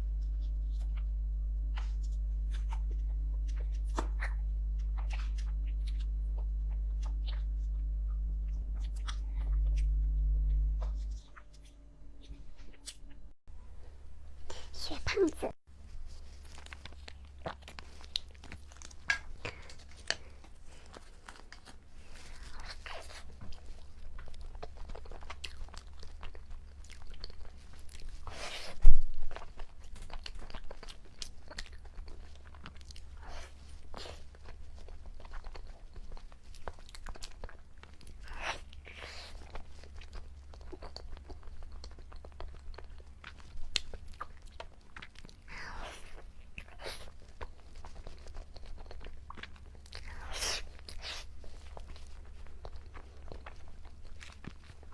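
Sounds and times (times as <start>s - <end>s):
faint low hum: 0.0s - 54.9s
soft chewing: 0.0s - 54.9s.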